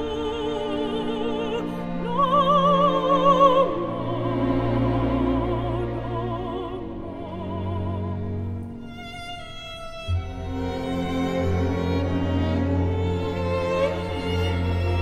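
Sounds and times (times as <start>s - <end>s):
operatic soprano singing: 0.0s - 15.0s
string orchestra: 0.0s - 15.0s.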